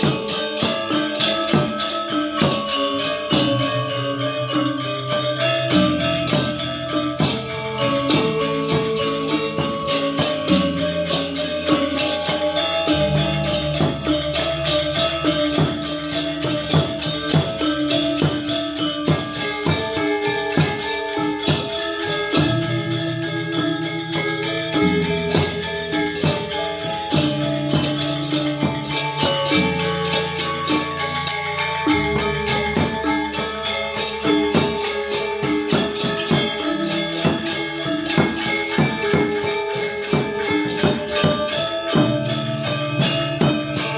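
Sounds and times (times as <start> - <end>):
metallophones playing rapid notes: 0.0 - 43.9
small cymbals jingling: 0.0 - 43.9.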